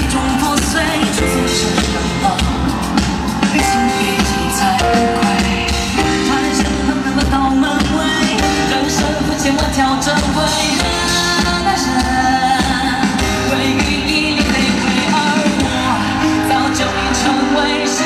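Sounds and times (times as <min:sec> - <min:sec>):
loud amplified band: 0:00.0 - 0:18.0
steady drum beat: 0:00.0 - 0:18.0.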